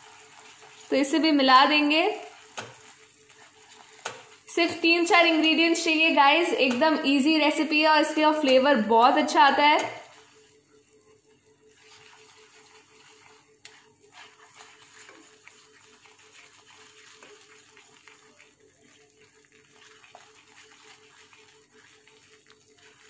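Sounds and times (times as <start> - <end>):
sauce sizzling in a frying pan: 0.0 - 23.0
spatula stirring: 0.0 - 23.0.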